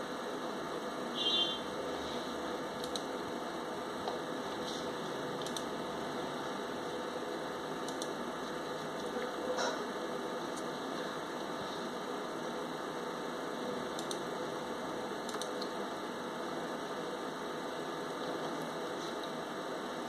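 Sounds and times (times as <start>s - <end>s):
room noise hum and hiss: 0.0s - 20.0s.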